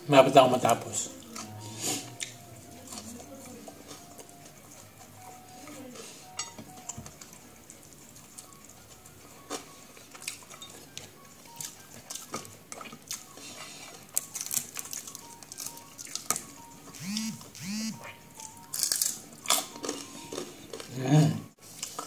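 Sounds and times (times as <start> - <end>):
food being chewed: 0.6 - 22.0.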